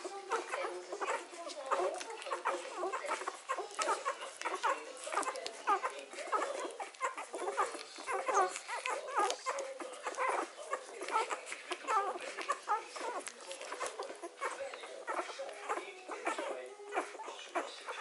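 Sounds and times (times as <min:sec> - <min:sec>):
puppies squeaking and whimpering: 0:00.0 - 0:18.0.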